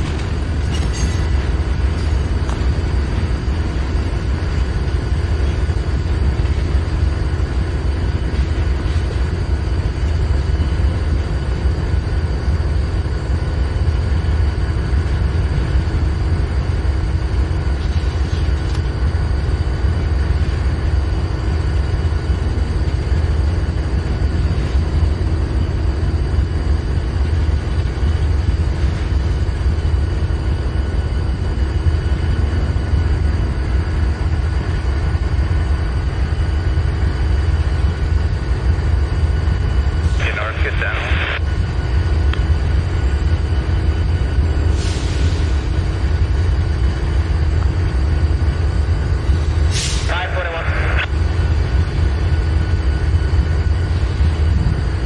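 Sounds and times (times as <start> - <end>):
deep locomotive engine rumble: 0.0 - 55.0.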